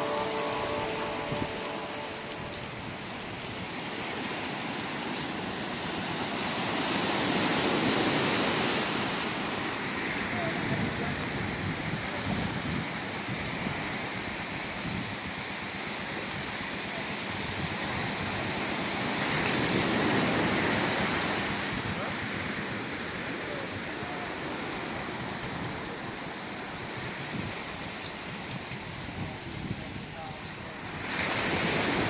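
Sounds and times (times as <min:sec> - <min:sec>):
surf washing onto beach: 0:00.0 - 0:32.0.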